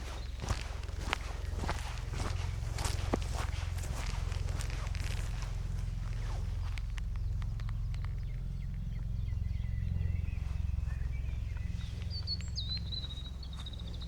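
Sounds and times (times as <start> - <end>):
songbirds singing: 0.0 - 14.0
steady low rumble: 0.0 - 14.0.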